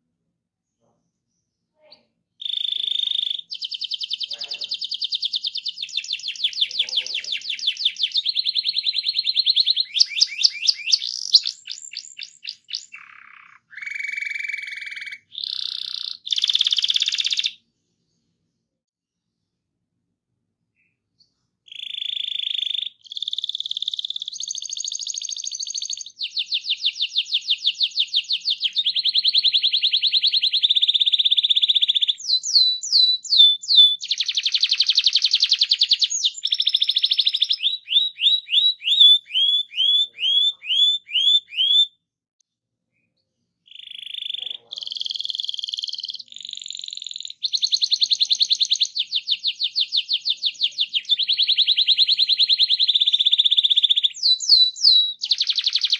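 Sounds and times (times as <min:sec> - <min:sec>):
canary singing trills: 0:00.8 - 0:17.6, 0:20.8 - 0:42.0, 0:43.0 - 0:55.9.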